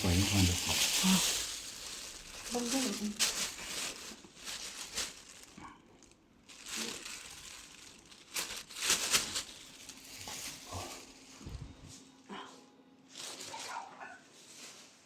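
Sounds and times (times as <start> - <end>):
bedding rustling and crinkling: 0.0 - 12.1, 13.0 - 15.0.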